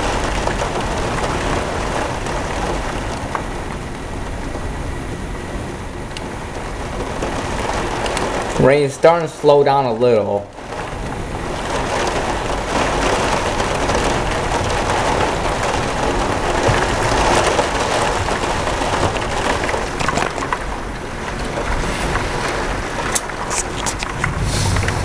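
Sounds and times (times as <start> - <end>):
rain: 0.0 - 25.0
wind: 0.0 - 25.0.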